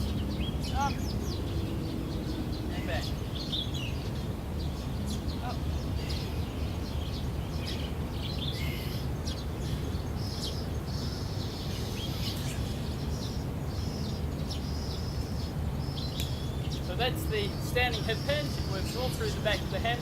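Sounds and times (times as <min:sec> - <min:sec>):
birds chirping and whistling: 0:00.0 - 0:20.0
low background rumble: 0:00.0 - 0:20.0.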